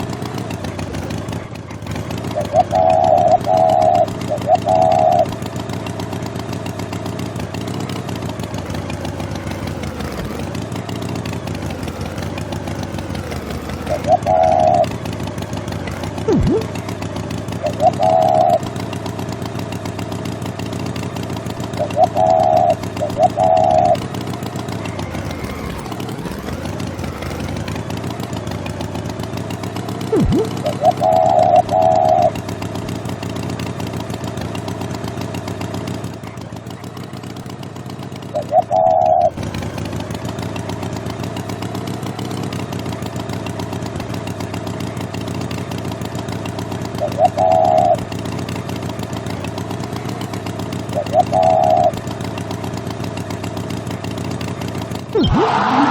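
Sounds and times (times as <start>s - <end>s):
motor running: 0.0s - 34.8s, 38.7s - 45.9s, 46.6s - 52.8s, 53.4s - 55.9s.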